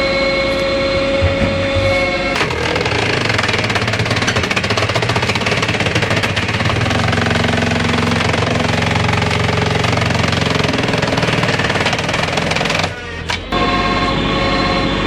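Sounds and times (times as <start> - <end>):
machine engine with pulsing rattle: 0.1 - 15.0.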